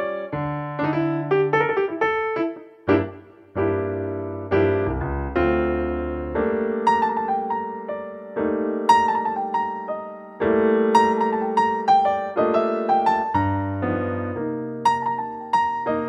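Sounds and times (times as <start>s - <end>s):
slow electric piano melody: 0.0s - 16.0s.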